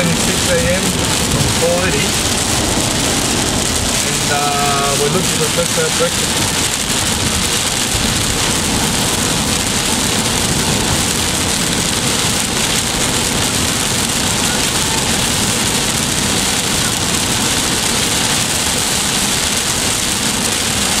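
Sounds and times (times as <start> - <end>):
car road noise: 0.0 - 21.0
heavy rain on windscreen: 0.0 - 21.0.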